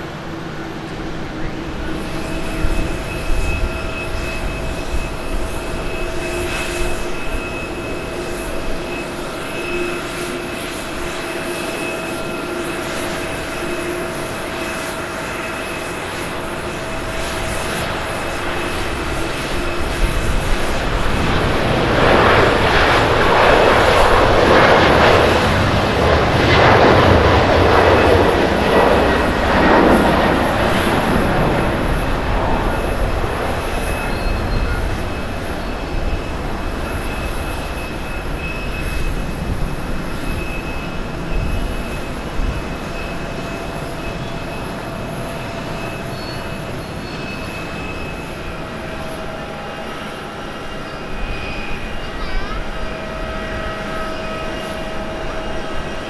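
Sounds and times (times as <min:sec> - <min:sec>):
jet engines roaring at takeoff: 0:00.0 - 0:56.0.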